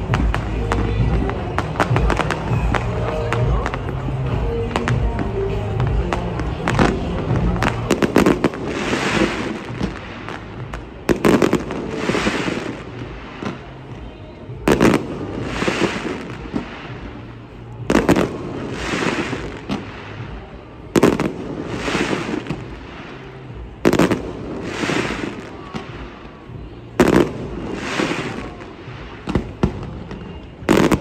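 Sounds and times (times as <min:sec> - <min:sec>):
fireworks crackle: 0:00.0 - 0:31.0.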